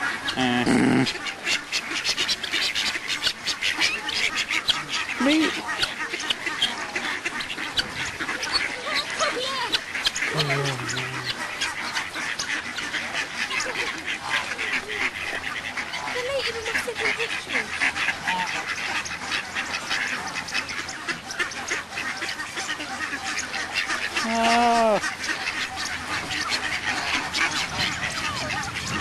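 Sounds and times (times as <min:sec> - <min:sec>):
ducks calling: 0:00.0 - 0:29.0.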